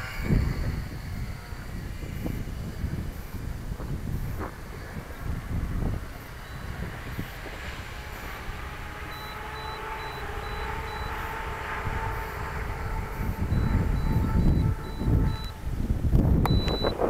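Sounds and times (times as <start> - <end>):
electric rc plane motor whining: 0.0 - 17.0
wind buffeting microphone: 0.0 - 17.0.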